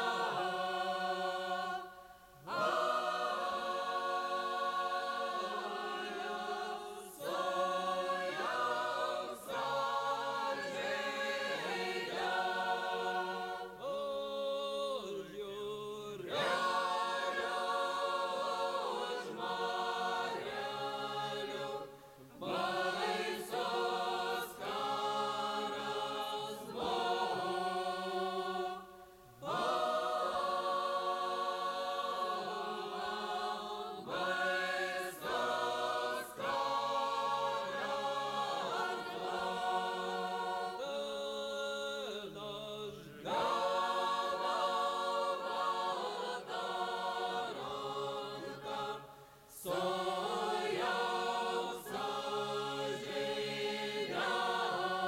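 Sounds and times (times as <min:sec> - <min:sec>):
group of voices singing: 0:00.0 - 0:55.0.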